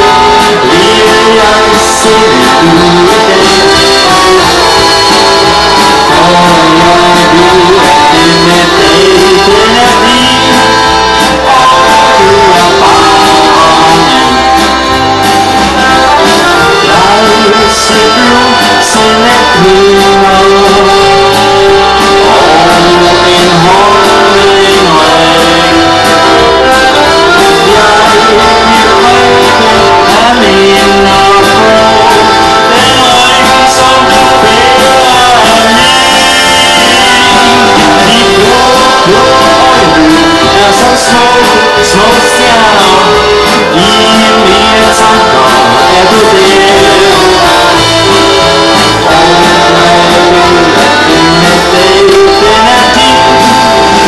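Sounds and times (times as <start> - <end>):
accordions playing: 0.0 - 54.0
electric bass guitar: 0.0 - 54.0.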